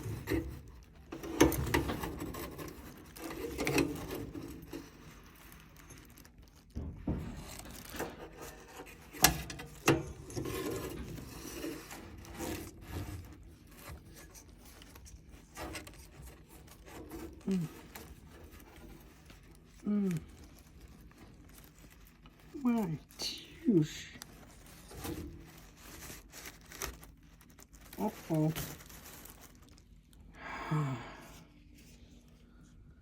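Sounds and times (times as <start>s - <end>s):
rubbing and scraping on a unit: 0.0s - 29.6s.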